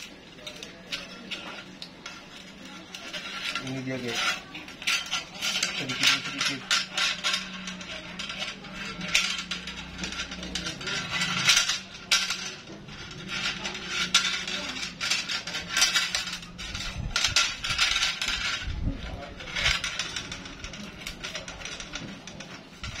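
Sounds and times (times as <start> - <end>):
metal spring clinking and scraping: 0.0 - 23.0.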